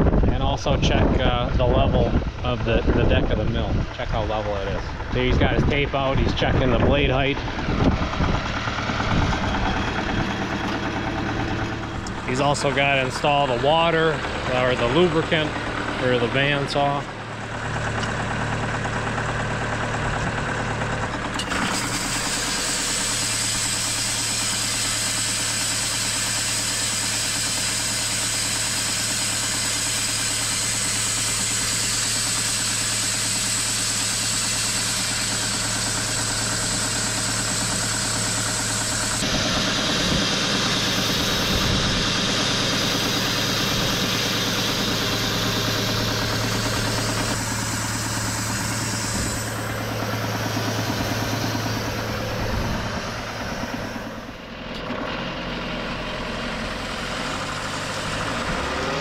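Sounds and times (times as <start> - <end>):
steady high whine: 0.0 - 57.7
sawmill engine idling: 0.0 - 59.0.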